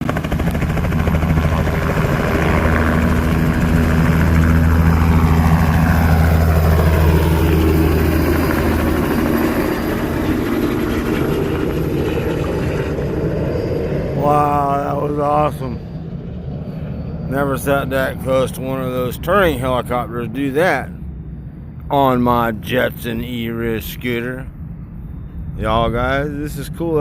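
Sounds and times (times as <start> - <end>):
helicopter rotor and engine: 0.0 - 27.0.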